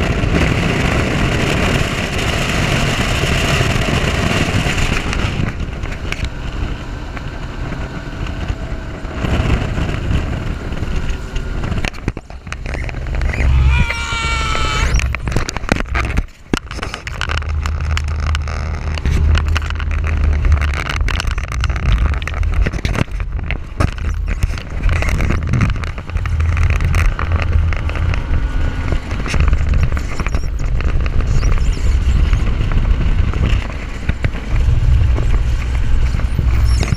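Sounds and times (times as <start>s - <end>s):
outboard motor running: 0.0s - 36.9s
wind buffeting microphone: 0.0s - 36.9s.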